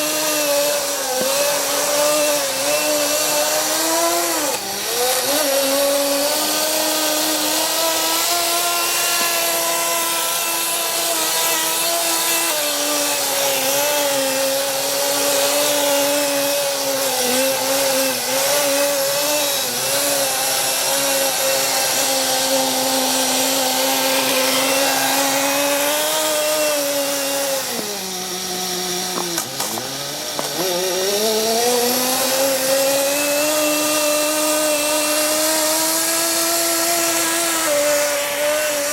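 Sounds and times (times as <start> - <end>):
high-revving nitro engine: 0.0 - 38.9.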